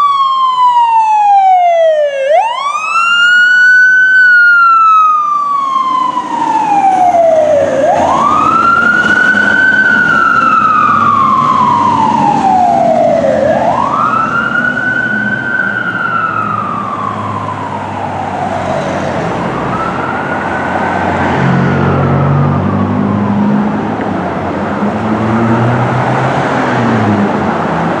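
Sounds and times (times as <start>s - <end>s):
fire engine siren wailing: 0.0s - 28.0s
truck engine rumble: 2.6s - 28.0s.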